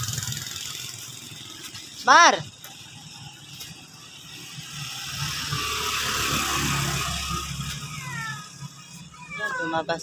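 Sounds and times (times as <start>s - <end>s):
vehicle passing on road: 0.0s - 10.0s.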